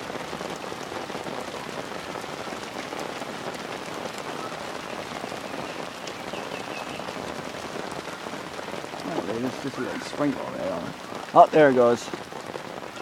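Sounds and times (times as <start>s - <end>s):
rain falling steadily: 0.0s - 13.0s.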